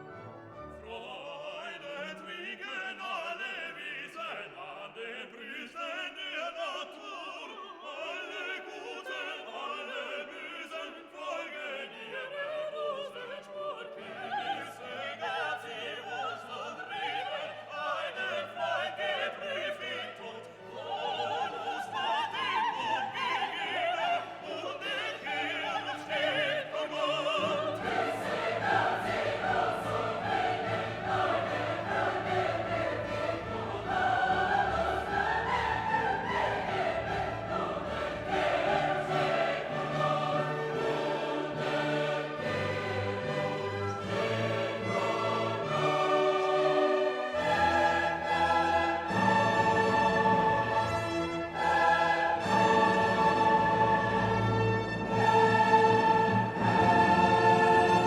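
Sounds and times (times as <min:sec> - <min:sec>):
orchestral music with operatic singing: 0:00.0 - 0:58.0.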